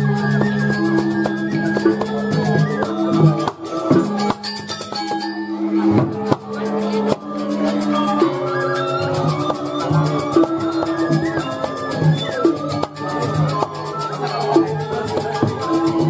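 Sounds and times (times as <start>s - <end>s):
drum strokes: 0.0s - 16.0s.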